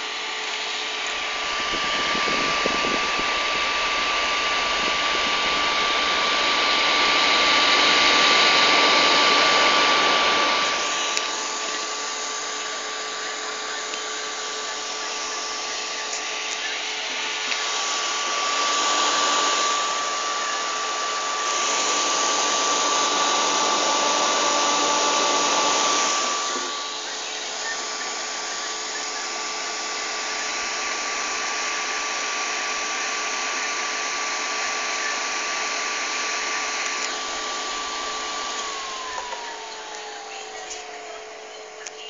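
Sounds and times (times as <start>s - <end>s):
fan air rushing: 0.0s - 42.0s
fan motor whine: 0.0s - 42.0s.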